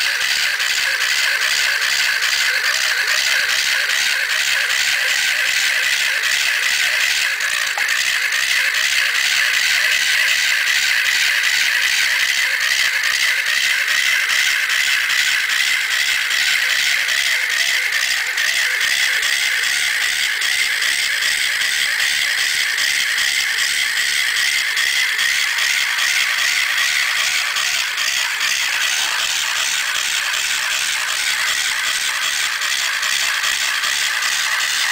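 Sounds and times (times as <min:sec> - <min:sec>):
plastic gears clicking: 0:00.0 - 0:34.9
small electric motor whining: 0:00.0 - 0:34.9.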